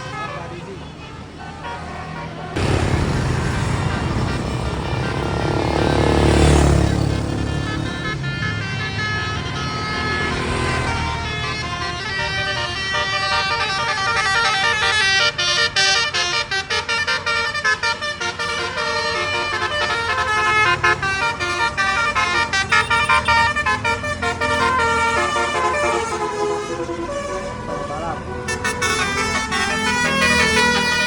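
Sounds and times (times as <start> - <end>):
bus musical horn playing a tune: 3.5 - 31.0.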